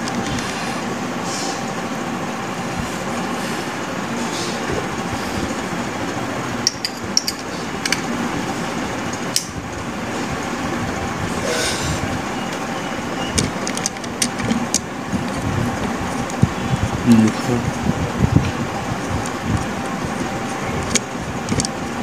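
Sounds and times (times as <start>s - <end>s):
rumbling background noise: 0.0s - 22.0s.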